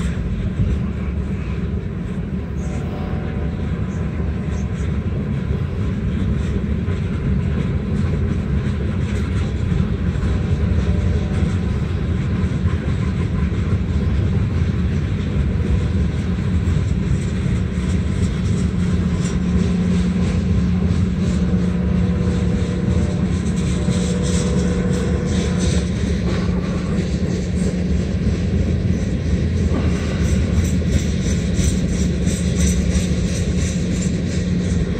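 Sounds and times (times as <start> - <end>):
low steady hum: 0.0 - 29.8
steel wheels rumbling on rail: 0.0 - 34.9.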